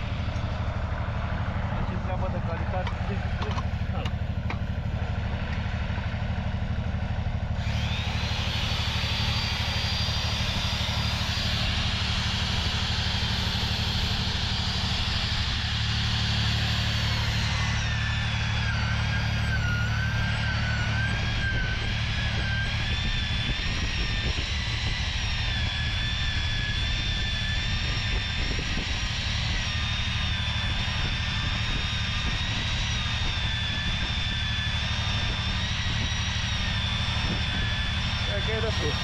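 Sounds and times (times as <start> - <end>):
pipe facing tool motor whine: 0.0 - 39.0.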